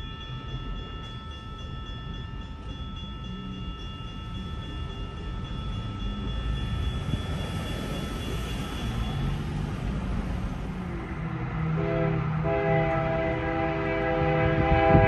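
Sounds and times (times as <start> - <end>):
freight train cars rumbling: 0.0 - 15.0.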